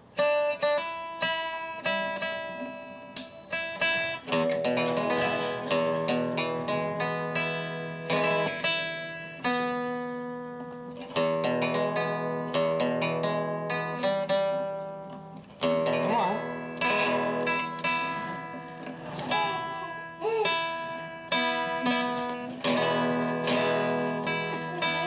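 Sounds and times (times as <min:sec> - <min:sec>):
electric guitar chords: 0:00.0 - 0:25.0
electric guitar licks: 0:00.0 - 0:25.0.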